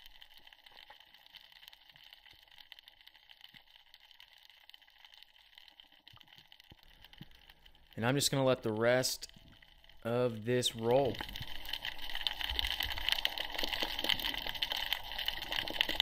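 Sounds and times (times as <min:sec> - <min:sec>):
faint steady hiss: 0:00.0 - 0:16.0
light crackling: 0:00.0 - 0:16.0.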